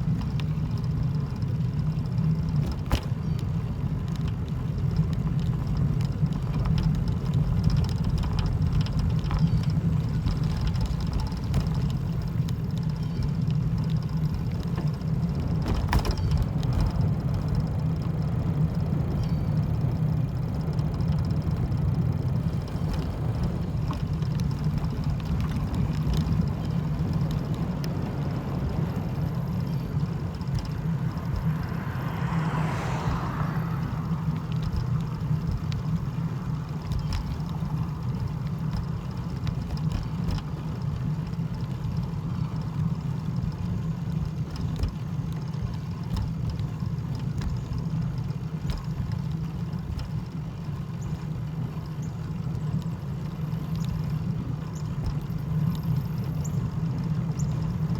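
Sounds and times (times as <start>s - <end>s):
vehicle low rumble: 0.0s - 57.9s.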